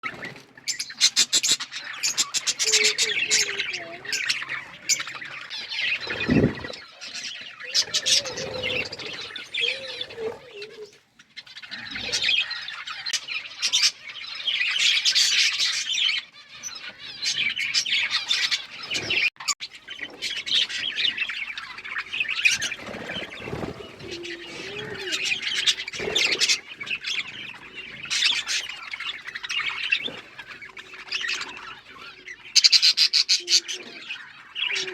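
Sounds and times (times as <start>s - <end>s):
parrots chirping and squawking: 0.1s - 34.9s.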